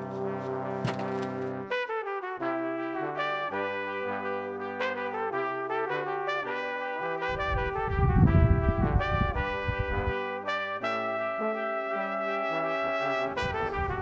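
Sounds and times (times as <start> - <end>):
instrumental music with brass melody: 0.0 - 14.0.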